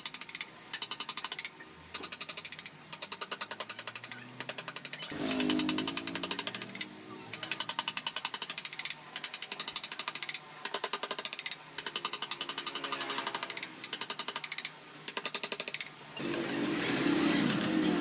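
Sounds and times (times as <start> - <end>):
steady carving sound: 0.0 - 18.0.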